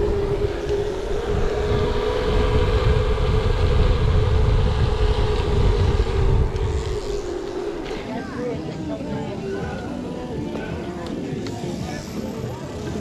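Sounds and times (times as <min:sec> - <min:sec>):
bicycle tyre noise: 0:00.0 - 0:13.0
steady hum: 0:00.0 - 0:13.0
wind rushing over microphone: 0:00.0 - 0:13.0.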